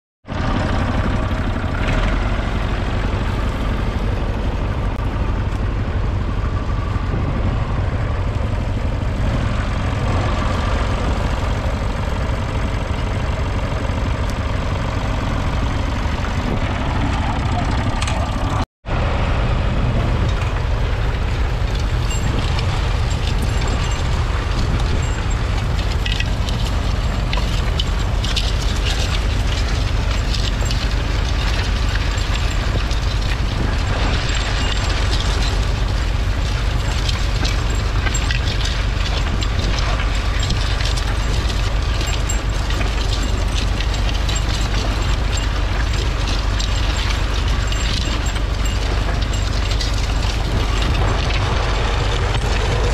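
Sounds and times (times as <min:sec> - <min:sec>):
tractor diesel engine running: 0:00.2 - 0:52.9
plough clattering: 0:08.0 - 0:18.6, 0:20.0 - 0:52.9.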